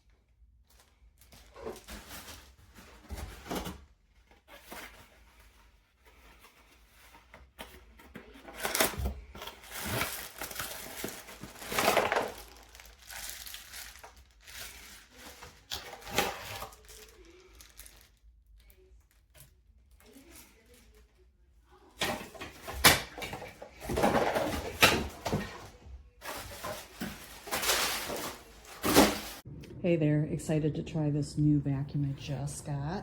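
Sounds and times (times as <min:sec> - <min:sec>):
crinkling and rustling handling: 0:00.0 - 0:29.5.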